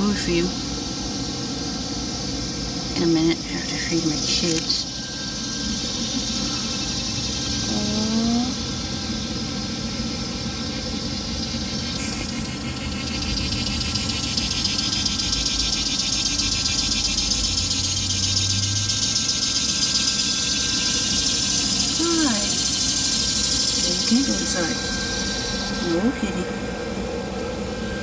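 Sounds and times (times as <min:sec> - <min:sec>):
motor humming: 0:00.0 - 0:28.0.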